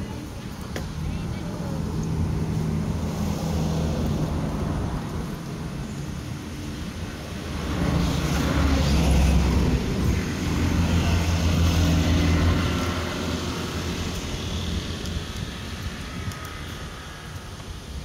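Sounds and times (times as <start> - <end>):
motor vehicle engine passing: 1.4 - 6.0, 6.7 - 17.4.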